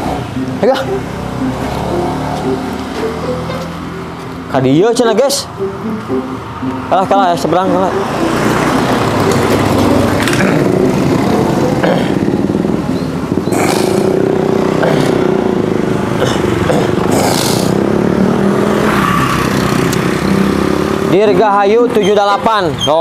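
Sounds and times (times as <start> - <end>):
motor scooter engines: 0.0 - 23.0.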